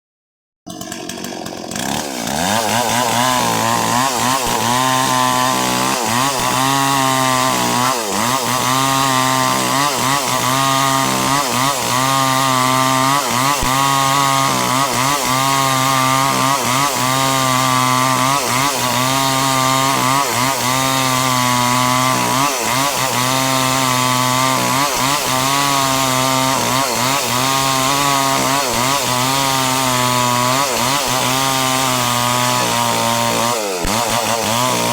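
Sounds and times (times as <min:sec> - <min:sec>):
small engine running: 0:00.7 - 0:34.9.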